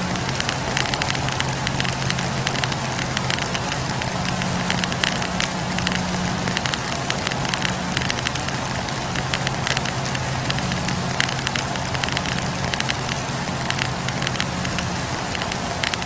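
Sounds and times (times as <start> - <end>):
low steady hum: 0.0 - 16.0
wood fire crackling: 0.0 - 16.0.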